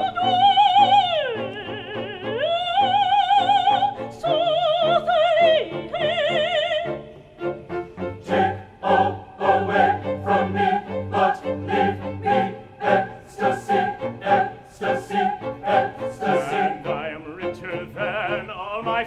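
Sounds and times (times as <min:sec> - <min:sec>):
opera singers with orchestra: 0:00.0 - 0:19.0.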